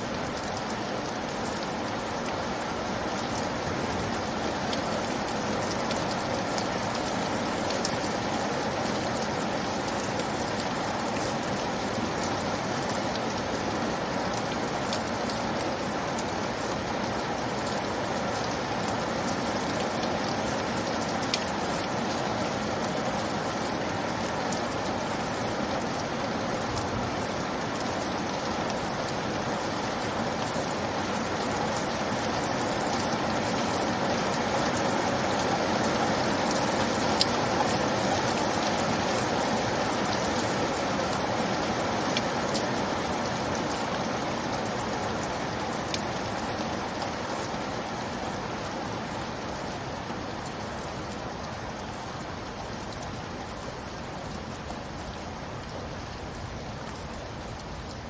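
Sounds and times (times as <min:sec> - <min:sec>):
steady rainfall hiss: 0:00.0 - 0:58.0.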